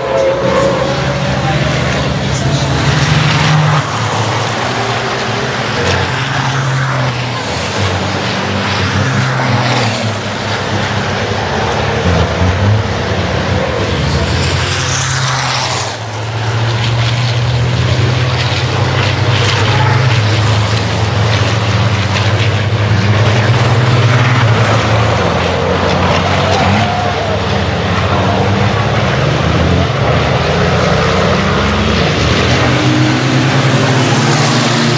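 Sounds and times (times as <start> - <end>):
diesel truck engines droning: 0.0 - 34.9.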